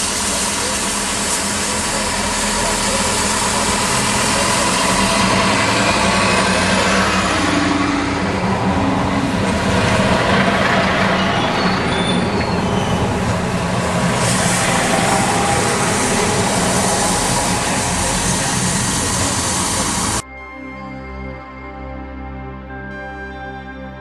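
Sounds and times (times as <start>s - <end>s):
diesel engine humming: 0.0s - 20.2s
high squeals: 0.0s - 20.2s
train wheels rumbling on rails: 0.0s - 20.2s.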